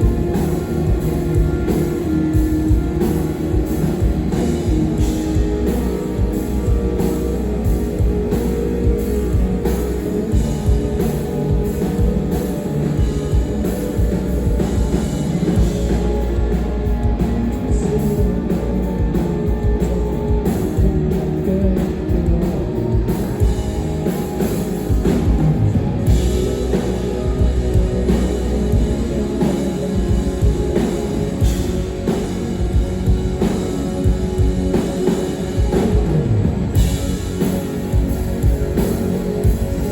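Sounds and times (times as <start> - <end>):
distorted guitars: 0.0 - 39.9
pounding drum kit: 0.0 - 39.9.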